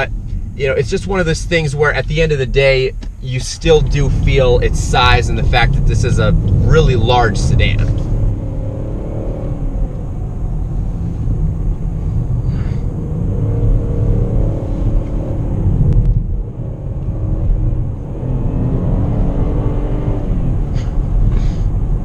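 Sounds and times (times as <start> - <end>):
car engine accelerating: 0.0 - 22.0
road rumble: 0.0 - 22.0.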